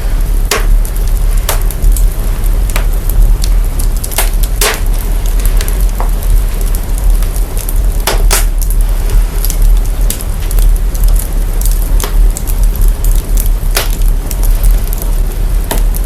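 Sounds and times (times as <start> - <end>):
deep rumble: 0.0 - 16.0
fire crackling and popping: 0.0 - 16.0.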